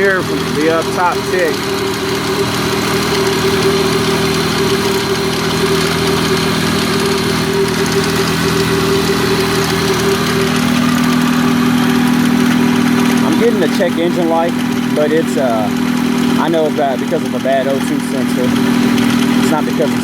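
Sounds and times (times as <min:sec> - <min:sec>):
car engine idling: 0:00.0 - 0:20.0
engine ticking: 0:00.0 - 0:20.0.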